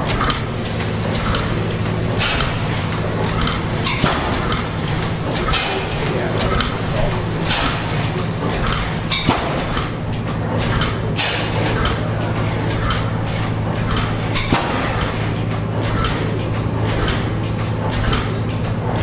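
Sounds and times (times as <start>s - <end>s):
engine knocks and clicks: 0.0s - 19.0s
gas engines humming: 0.0s - 19.0s.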